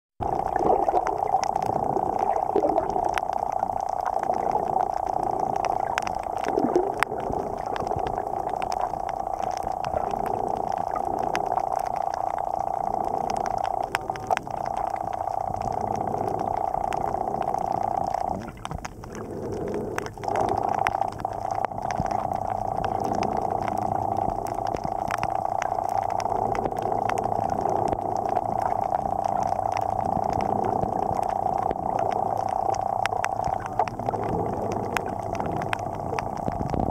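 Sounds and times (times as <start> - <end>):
faint underwater clicks: 0.2 - 36.9
muffled underwater hum: 0.2 - 36.9.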